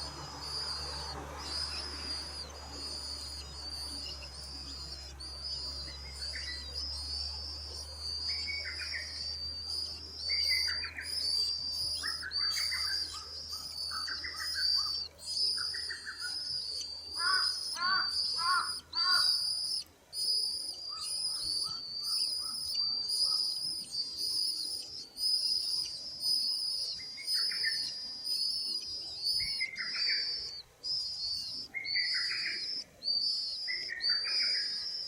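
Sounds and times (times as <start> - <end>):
low bird chirps: 0.0 - 35.0.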